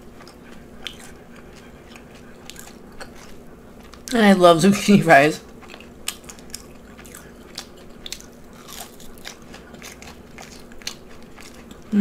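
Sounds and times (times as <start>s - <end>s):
crunching and chewing: 0.0s - 4.2s, 4.8s - 12.0s.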